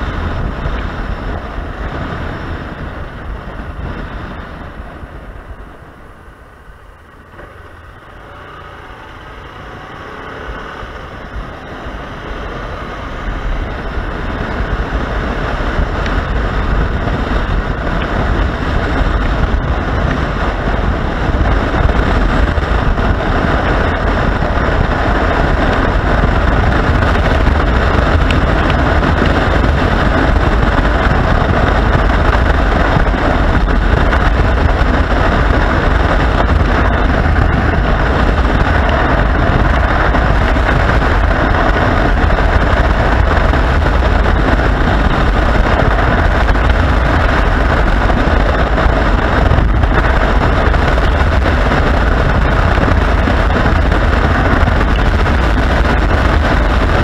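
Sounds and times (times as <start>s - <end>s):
motorcycle engine: 0.0s - 57.0s
road noise: 0.0s - 57.0s
wind rushing on microphone: 0.0s - 57.0s.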